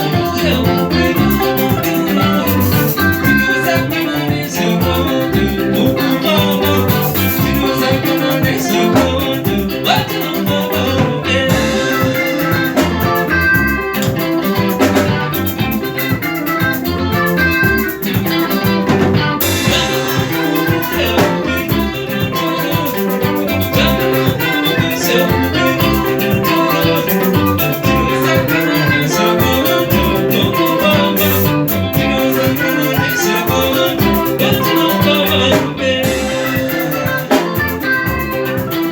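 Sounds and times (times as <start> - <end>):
drum beat: 0.0 - 38.9
electric guitars: 0.0 - 38.9.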